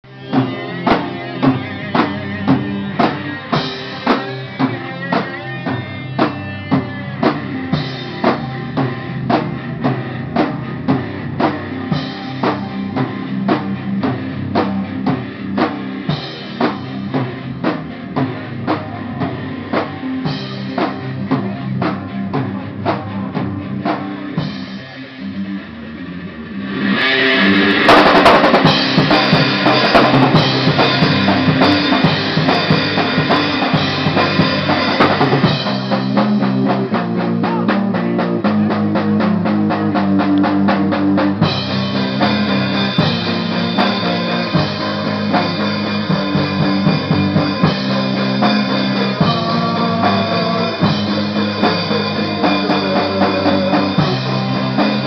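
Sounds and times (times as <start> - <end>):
drum kit beat: 0.0 - 25.4, 26.6 - 55.0
electric guitar: 0.0 - 55.0
live rock band playing: 0.0 - 55.0.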